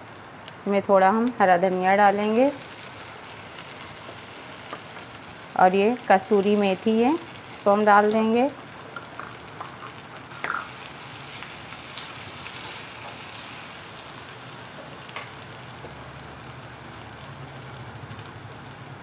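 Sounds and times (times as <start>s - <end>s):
chillies sizzling in hot oil: 0.0s - 19.0s
sharp oil crackles: 1.2s - 19.0s.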